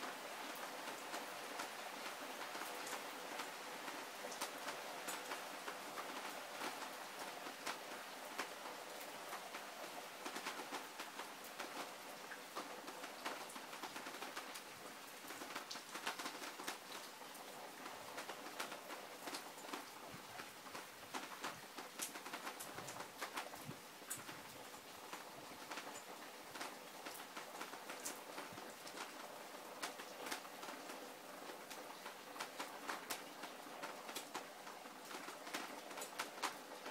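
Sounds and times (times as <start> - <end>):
raindrops tapping surfaces: 0.0 - 36.9.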